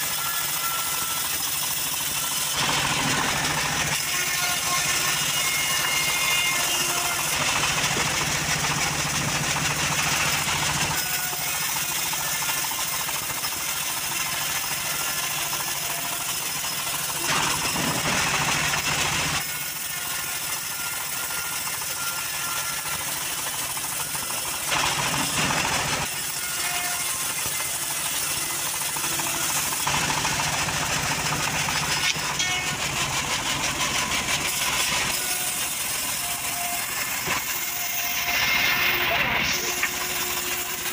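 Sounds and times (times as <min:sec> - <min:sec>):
saw blade cutting timber: 0:00.0 - 0:40.9
sawmill engine hum: 0:00.0 - 0:40.9.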